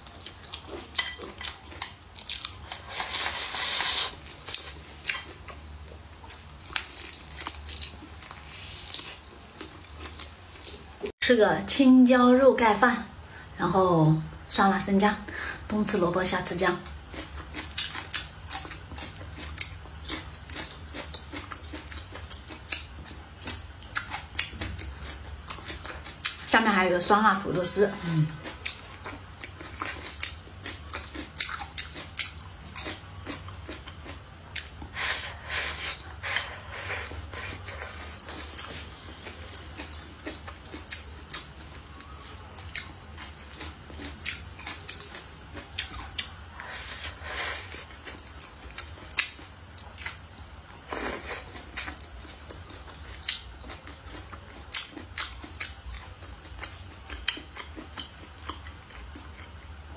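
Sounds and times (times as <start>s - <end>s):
person chewing crunchy food: 0.0s - 11.1s, 16.8s - 26.5s, 27.9s - 59.9s.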